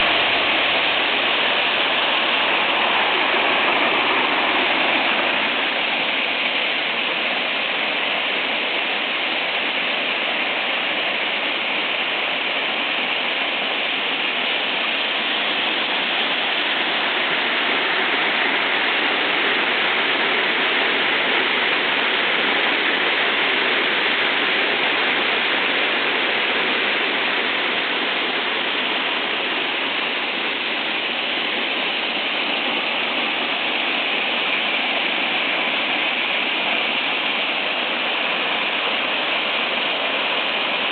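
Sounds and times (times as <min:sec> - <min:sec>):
waterfall pouring and splashing: 0:00.0 - 0:40.9.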